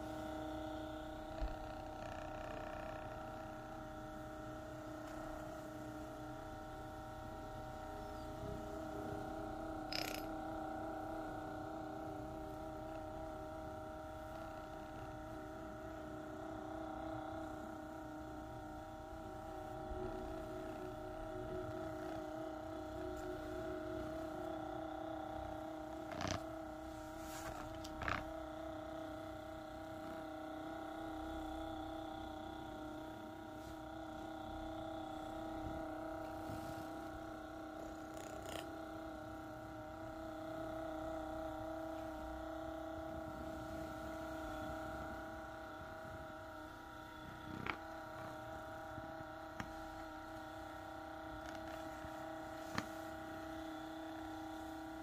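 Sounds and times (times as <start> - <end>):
massage gun motor hum: 0.0 - 55.0.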